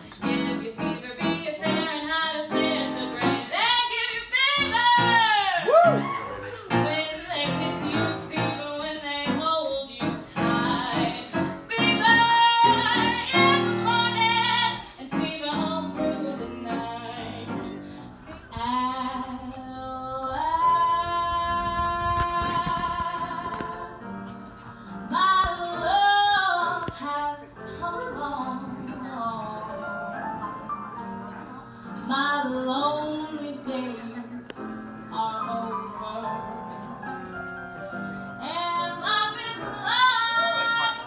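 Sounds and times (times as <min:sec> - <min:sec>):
woman singing: 0:00.0 - 0:06.0, 0:06.6 - 0:30.2, 0:32.0 - 0:36.9, 0:38.4 - 0:41.0
piano accompaniment: 0:00.0 - 0:41.0.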